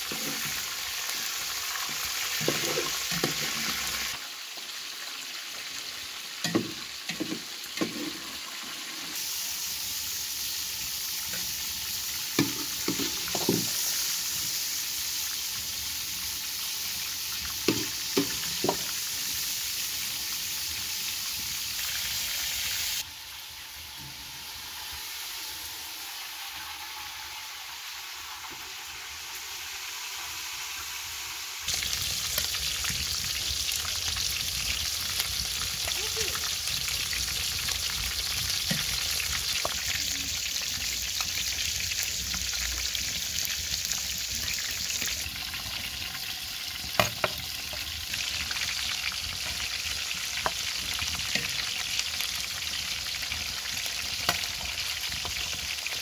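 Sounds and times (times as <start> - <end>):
chicken frying in oil: 0.0 - 56.0.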